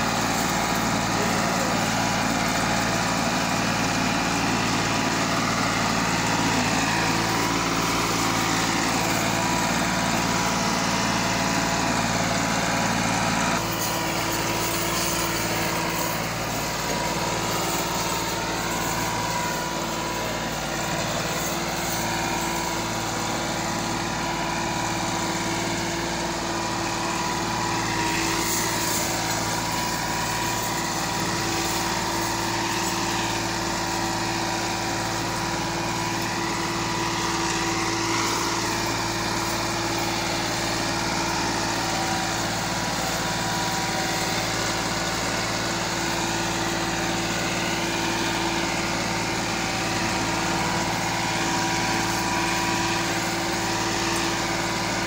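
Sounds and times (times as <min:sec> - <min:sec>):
diesel tractor engine under load: 0:00.0 - 0:55.0.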